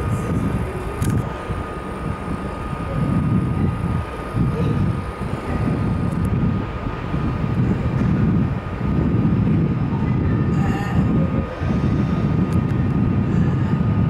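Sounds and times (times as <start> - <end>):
faint steady whine: 0.0 - 14.0
train rumbling: 0.0 - 14.0.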